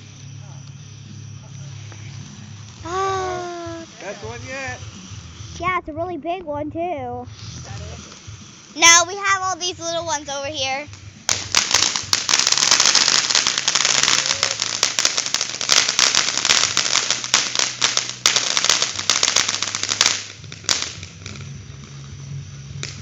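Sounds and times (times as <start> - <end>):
firework crackling pops: 0.0 - 6.6, 7.2 - 23.0.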